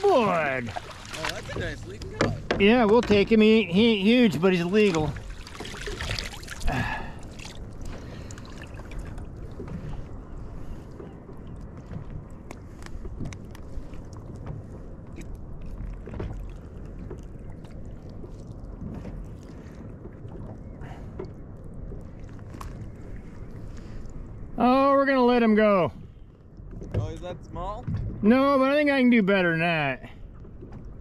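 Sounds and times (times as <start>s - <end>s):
water rumbling against hull: 0.0s - 31.0s.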